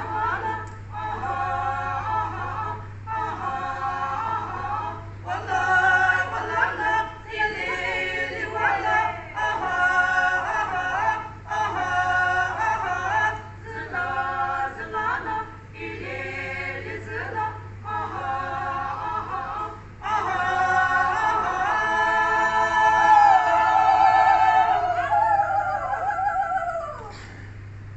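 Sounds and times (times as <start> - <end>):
women singing a cappella: 0.0 - 27.2.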